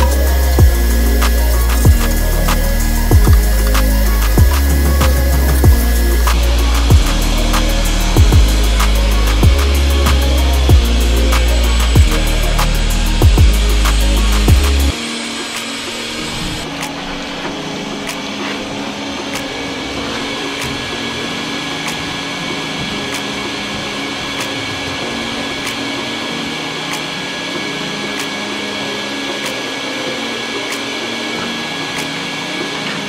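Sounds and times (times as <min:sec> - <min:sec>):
shop vacuum running: 0:00.0 - 0:33.0.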